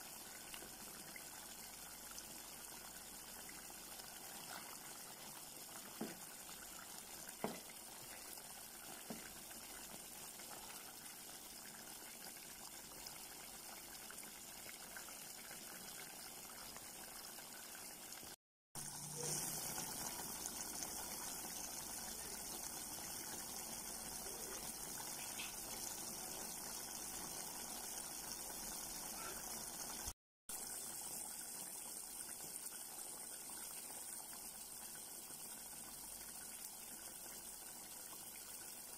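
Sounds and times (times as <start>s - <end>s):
coconut milk simmering in a pan: 0.0s - 38.9s.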